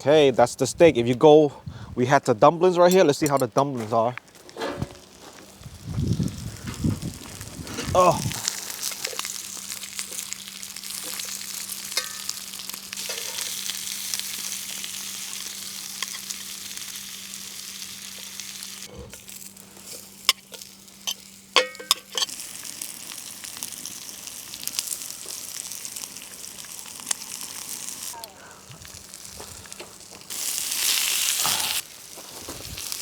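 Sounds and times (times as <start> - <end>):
food sizzling in a pan: 5.4 - 33.0.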